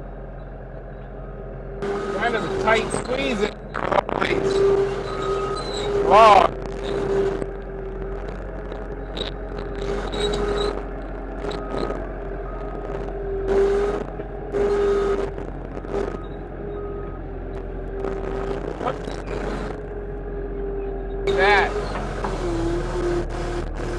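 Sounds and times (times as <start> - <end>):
sawmill engine running: 1.8 - 20.3, 21.2 - 23.9.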